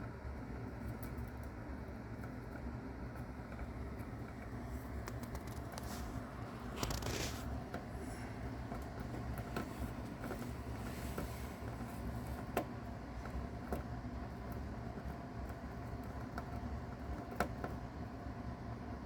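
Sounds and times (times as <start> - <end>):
steady low hum: 0.0 - 19.0
mouse chewing crackles: 0.3 - 18.2.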